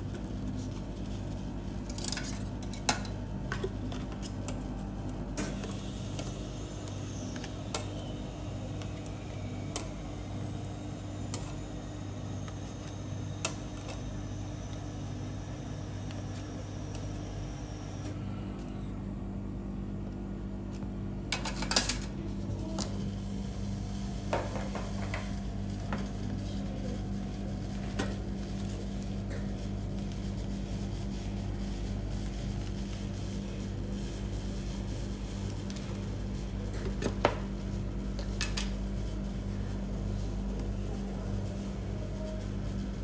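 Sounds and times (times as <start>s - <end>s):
compressor humming: 0.0s - 43.0s.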